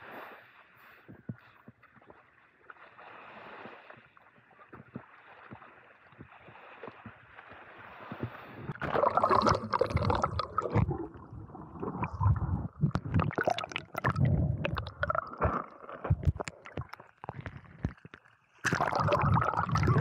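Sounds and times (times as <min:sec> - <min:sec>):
seawater splashing and gurgling: 0:00.0 - 0:20.0.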